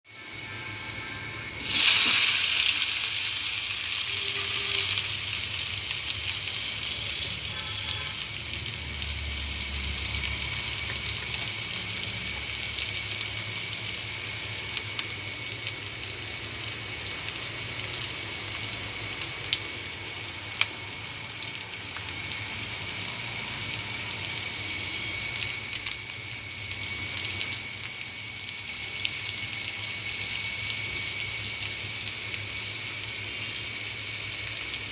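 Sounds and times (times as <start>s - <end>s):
food sizzling in a pan: 0.1s - 34.9s.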